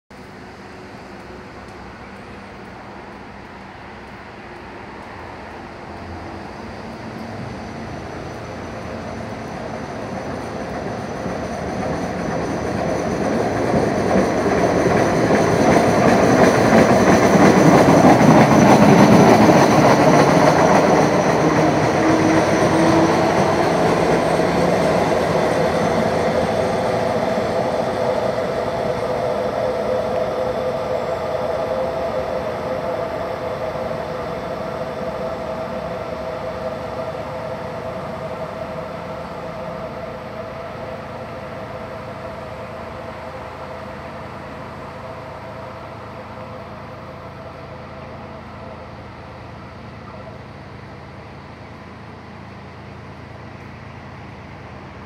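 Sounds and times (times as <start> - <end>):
passenger train passing: 0.1 - 55.0.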